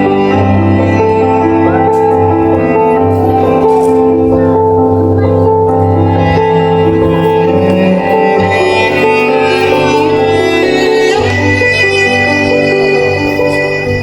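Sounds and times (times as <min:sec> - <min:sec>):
cello playing sustained notes: 0:00.0 - 0:14.0.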